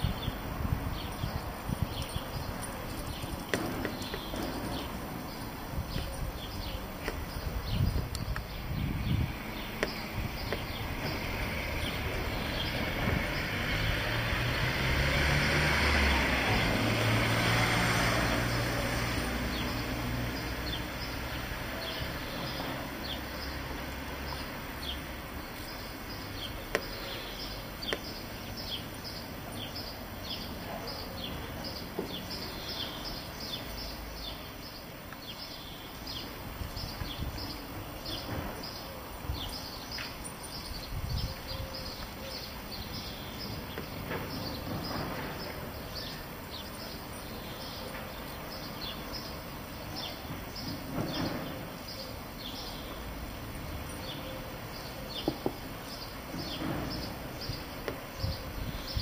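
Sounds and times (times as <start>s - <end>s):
bird chirping: 0.0s - 13.7s, 18.5s - 59.0s.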